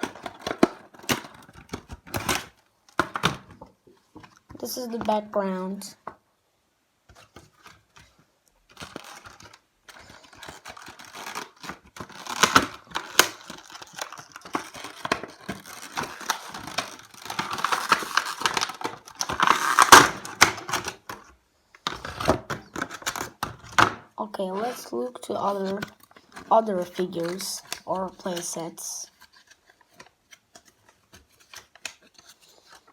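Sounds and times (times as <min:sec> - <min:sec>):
packaging rustling and crinkling: 0:00.0 - 0:04.6, 0:07.1 - 0:23.9, 0:24.5 - 0:32.9.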